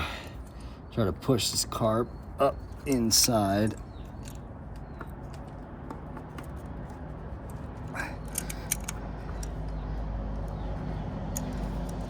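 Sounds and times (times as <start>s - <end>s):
light clicks and squeak: 1.5s - 5.7s, 6.3s - 12.0s.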